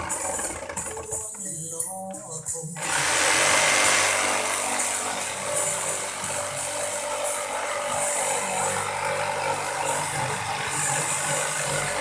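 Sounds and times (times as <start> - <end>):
electric jigsaw cutting: 0.0 - 1.3, 2.8 - 12.0.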